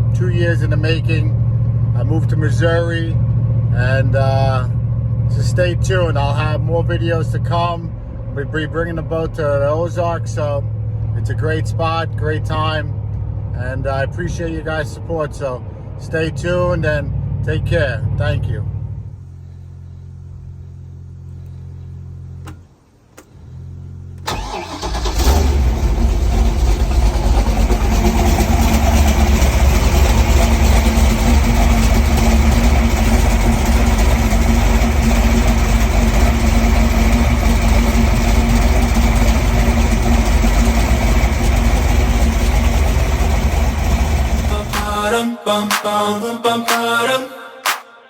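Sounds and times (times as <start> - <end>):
low hum: 0.0 - 22.6, 23.3 - 47.5
boat engine starting and rumbling: 0.0 - 45.1.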